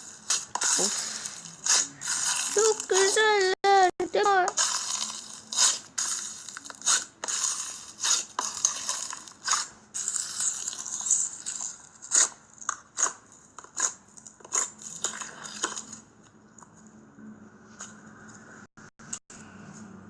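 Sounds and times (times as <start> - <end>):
slime crackling and squelching: 0.0 - 16.8.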